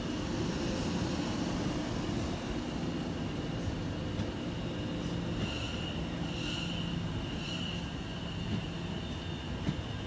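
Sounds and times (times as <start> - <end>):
train rumble and hiss: 0.0 - 10.0.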